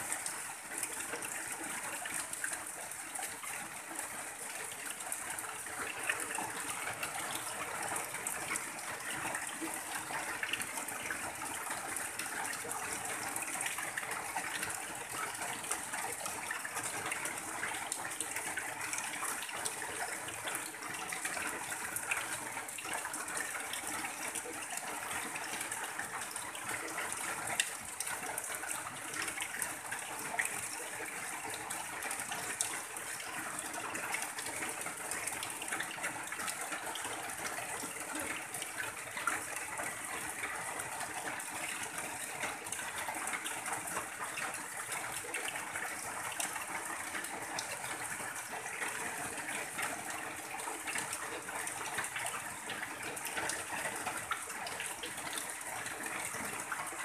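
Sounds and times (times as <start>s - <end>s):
heavy rain on a tin roof: 0.0s - 57.0s
runoff pouring and splashing: 0.0s - 57.0s.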